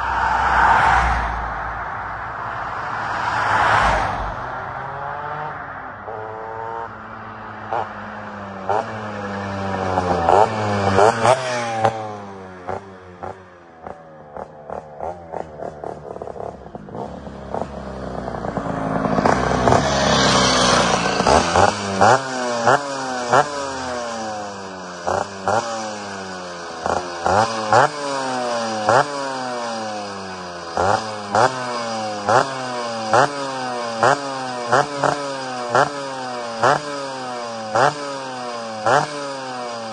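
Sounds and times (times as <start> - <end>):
scooter engine revving: 4.8 - 6.9, 7.6 - 39.9
two-stroke scooter engine: 7.7 - 39.9.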